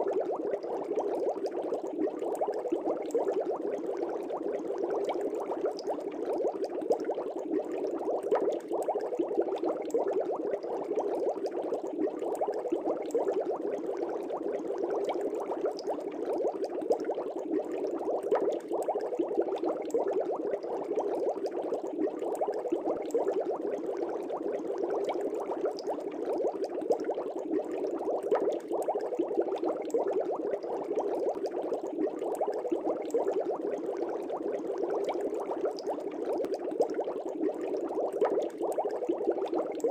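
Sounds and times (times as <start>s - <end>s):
air bubbles in fish tank: 0.0s - 39.9s.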